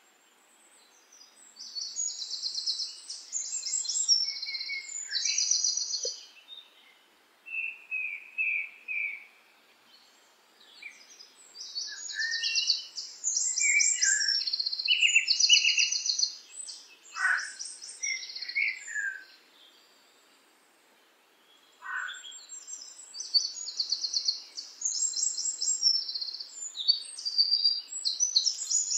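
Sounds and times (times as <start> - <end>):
songbird trilling and chirping: 0.8 - 9.3, 9.9 - 19.9, 21.5 - 28.9.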